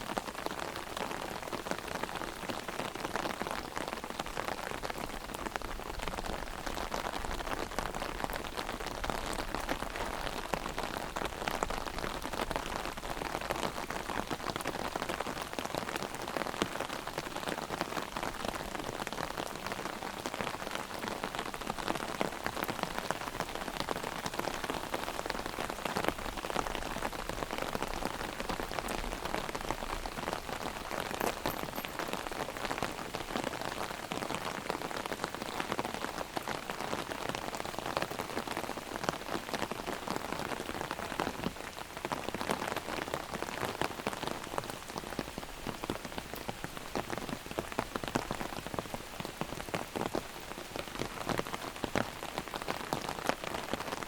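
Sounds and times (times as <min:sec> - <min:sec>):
heavy rain on an umbrella: 0:00.0 - 0:54.0.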